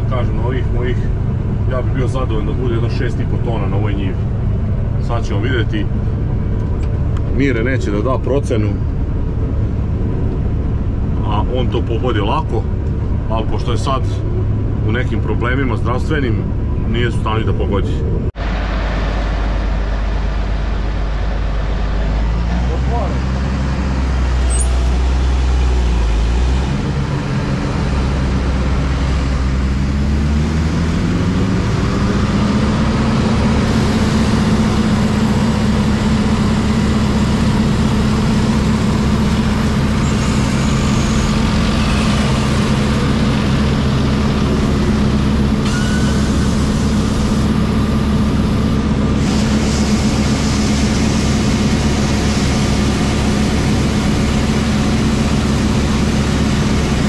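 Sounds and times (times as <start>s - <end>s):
heavy diesel engine: 0.0s - 57.0s.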